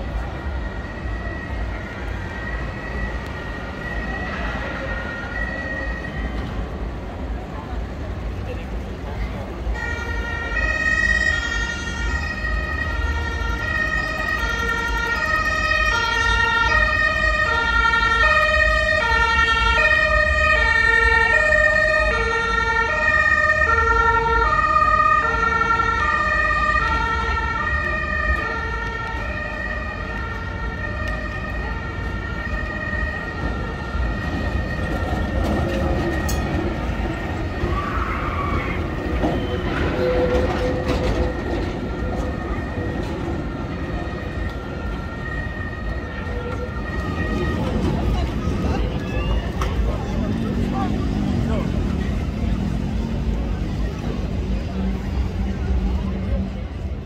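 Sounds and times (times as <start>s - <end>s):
two-tone siren: 0.0s - 6.6s, 9.7s - 53.7s
tram passing: 0.0s - 57.0s.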